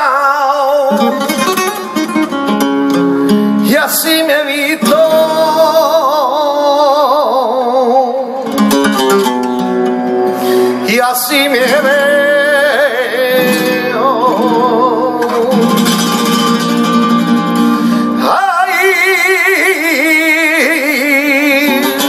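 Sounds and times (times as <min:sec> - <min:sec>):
flamenco guitar: 0:00.0 - 0:22.0
man singing flamenco: 0:00.0 - 0:22.0.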